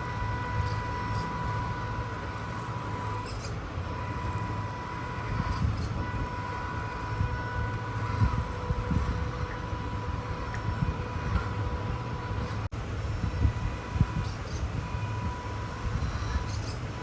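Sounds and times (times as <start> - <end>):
toy truck electric motor whine: 0.0 - 17.0.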